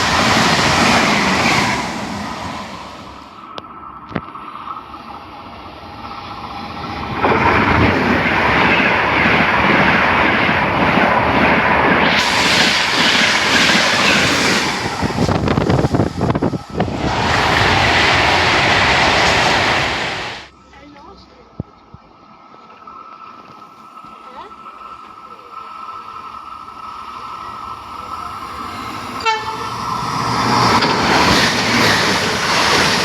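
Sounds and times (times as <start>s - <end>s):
train rushing past: 0.0s - 3.5s, 4.8s - 20.7s, 22.9s - 33.0s.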